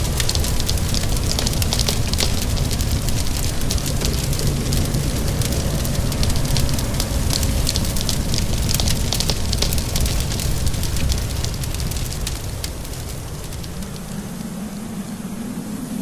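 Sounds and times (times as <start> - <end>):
fire crackling and popping: 0.0 - 15.7
low rumble: 0.0 - 16.0
rain hissing: 0.0 - 16.0.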